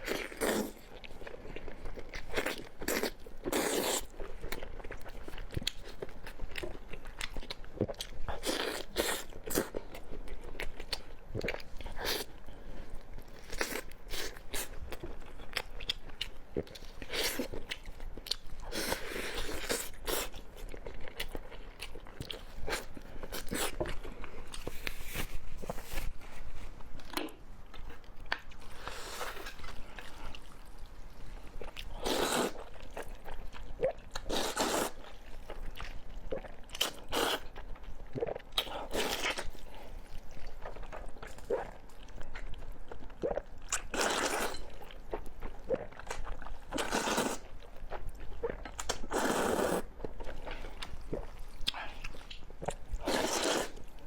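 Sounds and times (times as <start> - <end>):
person crunching and chewing: 0.0 - 12.3, 13.4 - 26.1, 31.5 - 54.0.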